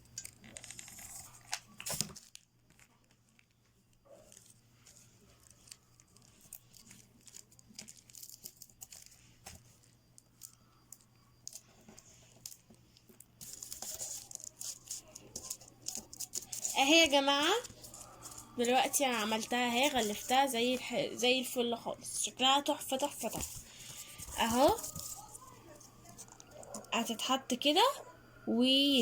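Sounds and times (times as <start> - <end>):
cellophane crinkling: 0.2 - 20.8, 23.0 - 26.9.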